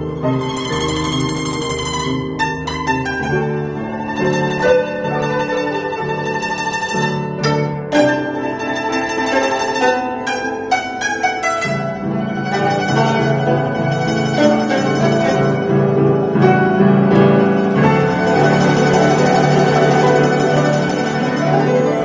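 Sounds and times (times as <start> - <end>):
guzheng playing: 0.0 - 22.0.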